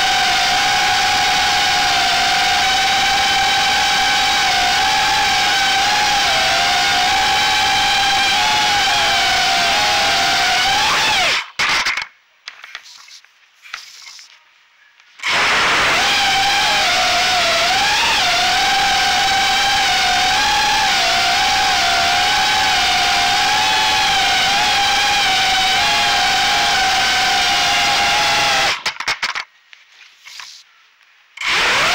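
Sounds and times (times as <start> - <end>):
quadcopter motors whining: 0.0 - 11.5, 15.2 - 28.8, 31.4 - 31.9.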